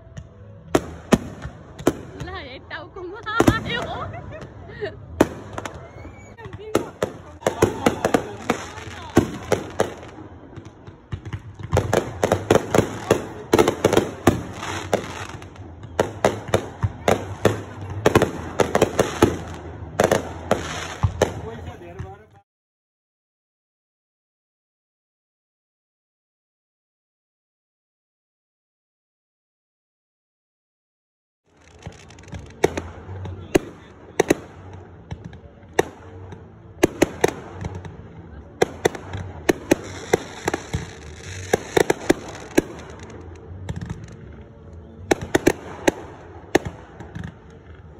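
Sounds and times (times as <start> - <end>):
fireworks bangs and crackles: 0.0 - 22.4, 31.5 - 47.9.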